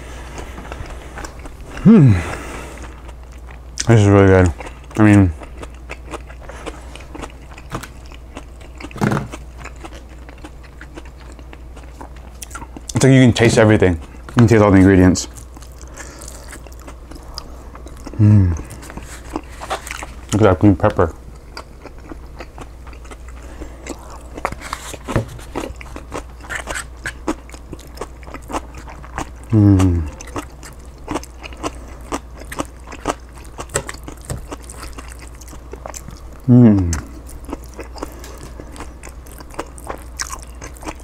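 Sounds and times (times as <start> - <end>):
crunchy wet chewing: 0.0 - 41.0.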